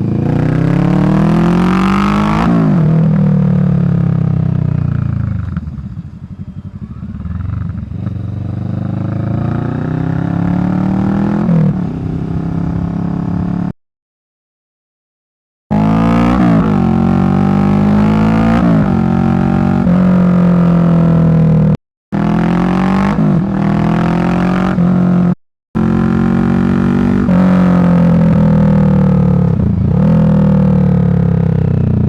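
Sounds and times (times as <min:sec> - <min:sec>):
motorcycle engine revving: 0:00.0 - 0:13.7, 0:15.7 - 0:32.0.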